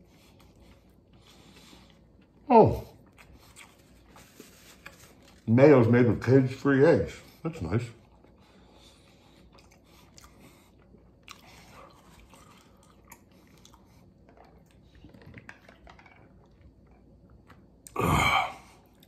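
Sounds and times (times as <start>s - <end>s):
man chewing: 0.0s - 5.5s, 8.0s - 19.0s.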